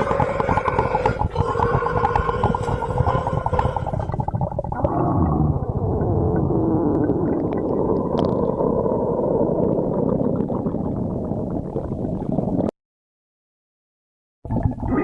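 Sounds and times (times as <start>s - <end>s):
stomach growling: 0.0s - 12.7s, 14.5s - 15.0s.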